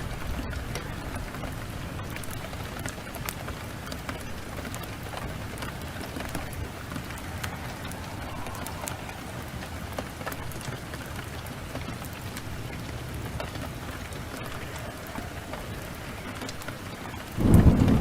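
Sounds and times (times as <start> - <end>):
heavy rain downpour: 0.0 - 18.0
wood fire crackling: 0.0 - 18.0.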